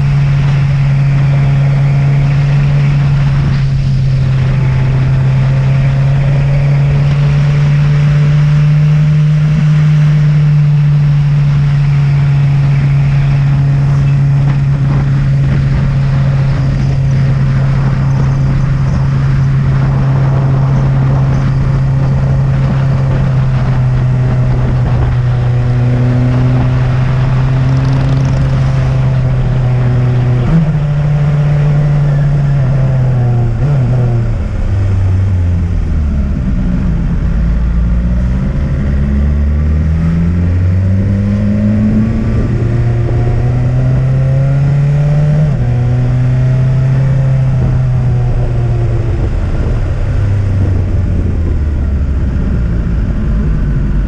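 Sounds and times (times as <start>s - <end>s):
motorcycle engine accelerating: 0.0s - 54.0s
wind rush: 0.0s - 54.0s.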